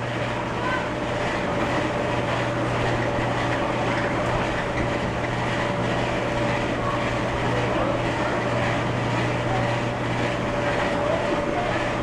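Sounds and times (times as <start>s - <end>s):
carousel drive machinery running: 0.0s - 12.0s.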